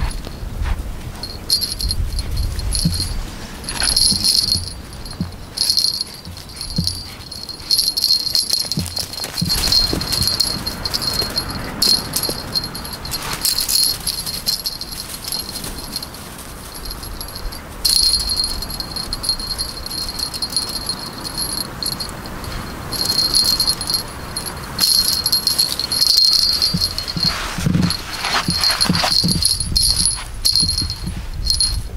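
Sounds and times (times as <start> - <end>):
cat toy bell jingling: 0.0 - 31.9.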